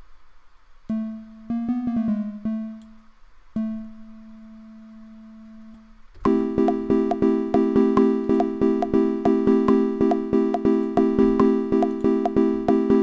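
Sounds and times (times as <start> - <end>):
synthesizer bell notes: 0.9 - 3.0, 3.6 - 5.7, 6.3 - 13.0.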